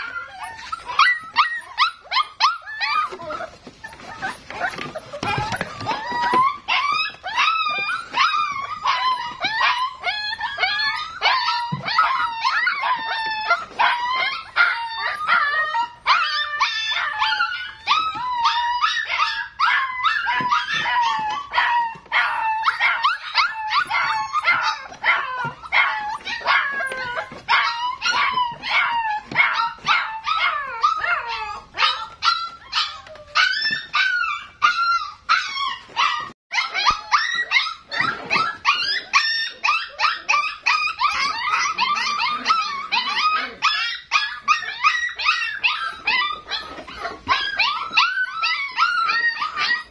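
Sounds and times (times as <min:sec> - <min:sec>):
puppies crying: 0:00.0 - 0:49.9.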